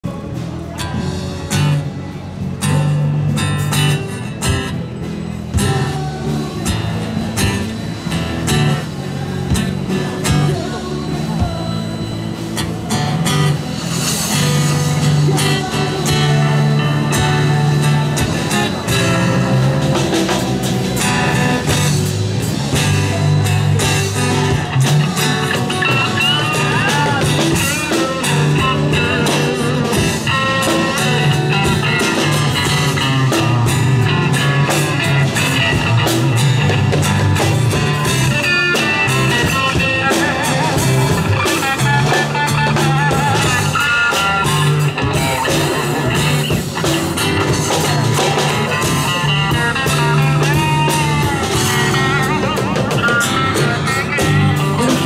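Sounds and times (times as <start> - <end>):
bass guitar low notes: 0.0 - 55.0
bending lead guitar line: 0.0 - 55.0
drum kit: 0.0 - 55.0.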